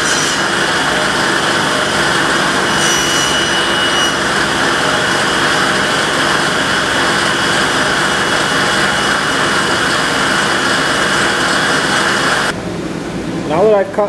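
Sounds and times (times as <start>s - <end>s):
table saw running: 0.0s - 12.6s.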